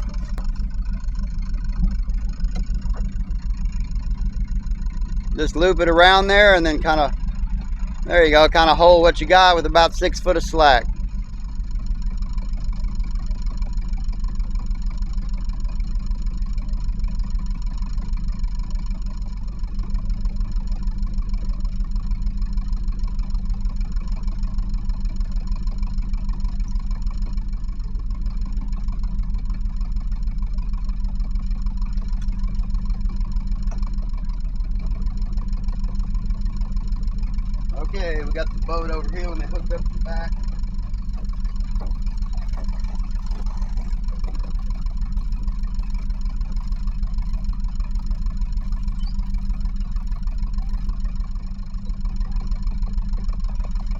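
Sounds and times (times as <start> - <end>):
boat engine running: 0.0 - 53.9.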